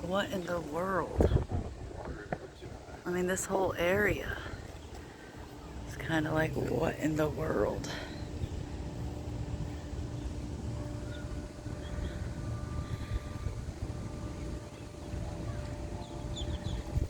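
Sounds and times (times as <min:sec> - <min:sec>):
faint steady hum: 0:00.0 - 0:17.0
wind rumbling on microphone: 0:00.0 - 0:17.0.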